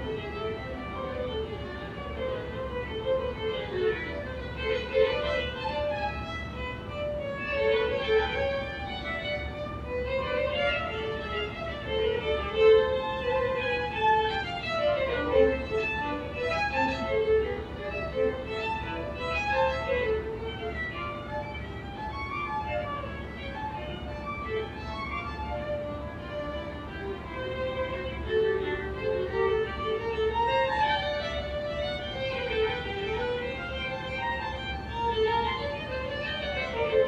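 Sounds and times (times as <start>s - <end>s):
violin duet: 0.0s - 37.0s.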